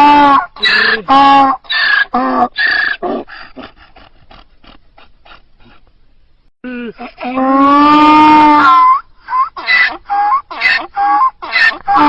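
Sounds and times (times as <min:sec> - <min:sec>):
donkey braying: 0:00.0 - 0:05.9, 0:07.0 - 0:12.0.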